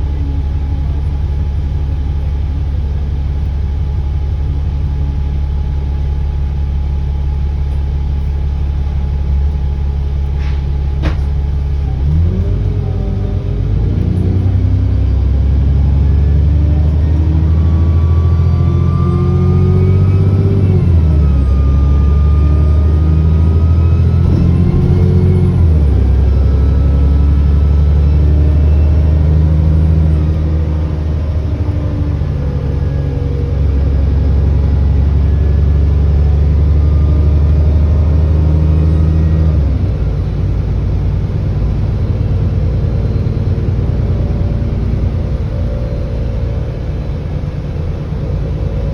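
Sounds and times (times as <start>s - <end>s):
bus engine pulling: 0.0s - 48.9s
turbo whine: 0.0s - 48.9s.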